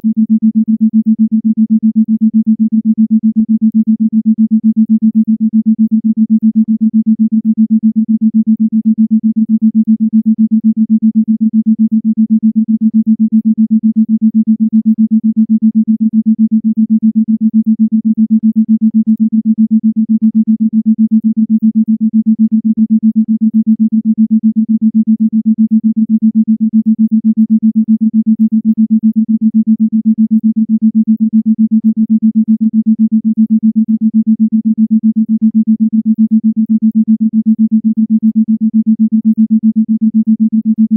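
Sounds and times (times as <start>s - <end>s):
pulsing low pure tone: 0.0s - 40.9s.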